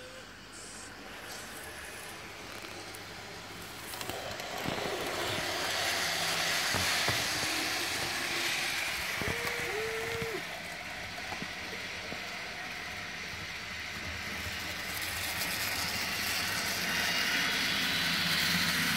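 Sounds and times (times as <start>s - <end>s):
model train whirring and rattling: 0.0s - 18.9s.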